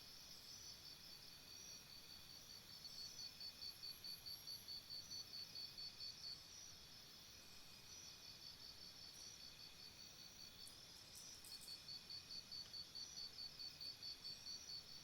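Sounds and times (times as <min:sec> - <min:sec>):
insect drone: 0:00.1 - 0:15.0
pulsing high insect chirp: 0:00.4 - 0:15.0.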